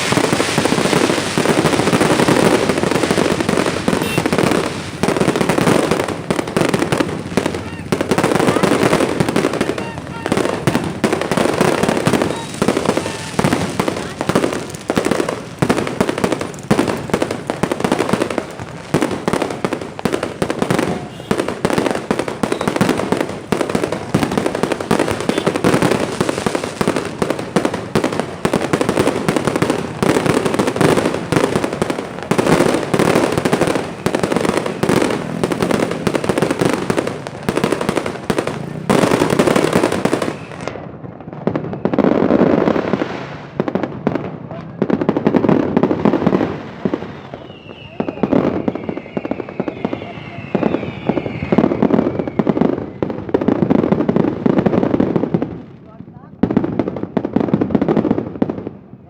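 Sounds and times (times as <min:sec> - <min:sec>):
fireworks and firecrackers banging: 0:00.0 - 0:59.0.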